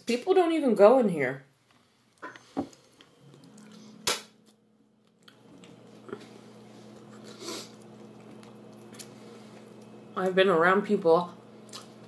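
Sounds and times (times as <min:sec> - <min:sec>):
faint low hum: 0:00.4 - 0:12.0.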